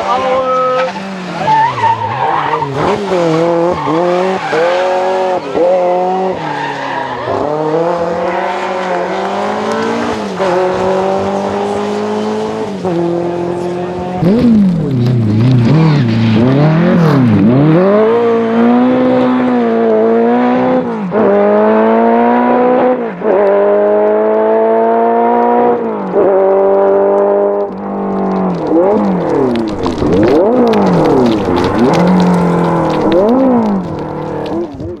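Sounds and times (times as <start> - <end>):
car engine accelerating and revving: 0.0 - 35.0.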